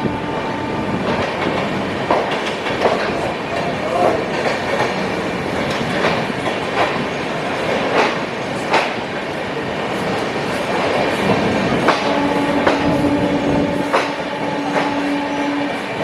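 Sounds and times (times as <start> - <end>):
train rumble: 0.0 - 16.0
train wheels clicking over rail joints: 1.0 - 15.9.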